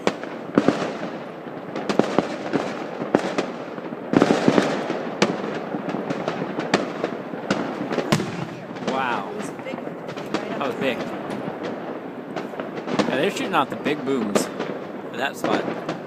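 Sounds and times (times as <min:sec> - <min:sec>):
fireworks crackle and rumble: 0:00.0 - 0:16.0
sharp firework bangs: 0:00.0 - 0:16.0.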